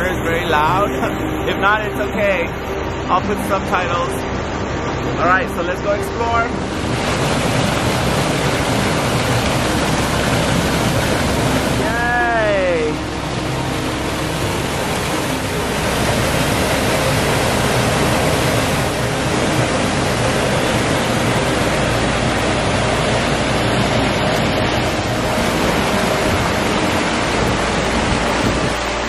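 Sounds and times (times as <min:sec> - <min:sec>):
water cascading over boulders: 0:00.0 - 0:29.0.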